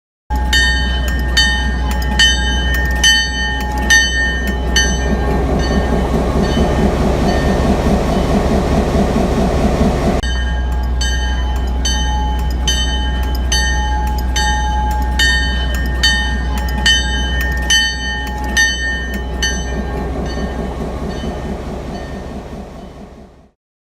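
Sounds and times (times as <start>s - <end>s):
ringing high tones: 0.3s - 23.2s
regular rail clicking: 0.3s - 23.5s
train car rumbling on track: 0.3s - 23.6s.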